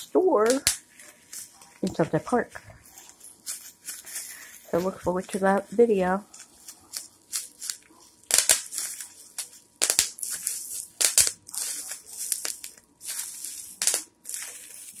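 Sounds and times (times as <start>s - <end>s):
bubble wrap popping: 0.0s - 15.0s
plastic crinkling: 0.0s - 15.0s.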